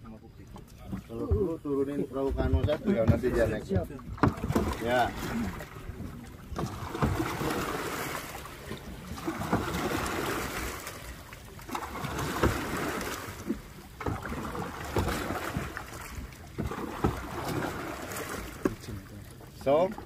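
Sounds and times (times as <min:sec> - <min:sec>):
canoe paddle splashing in water: 0:02.3 - 0:20.0.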